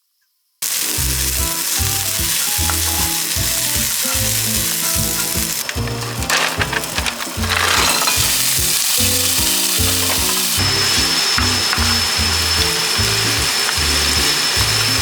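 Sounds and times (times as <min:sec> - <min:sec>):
food sizzling in a pan: 0:00.6 - 0:15.0.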